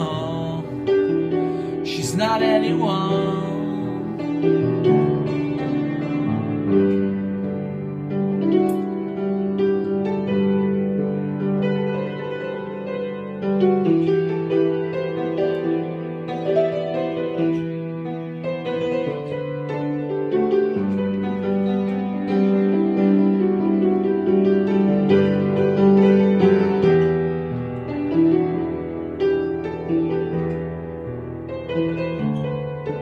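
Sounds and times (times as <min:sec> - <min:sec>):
piano chords: 0:00.0 - 0:33.0.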